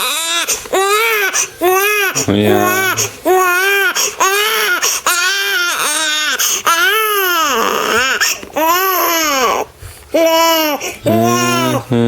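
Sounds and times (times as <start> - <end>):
infant crying: 0.0 - 12.0.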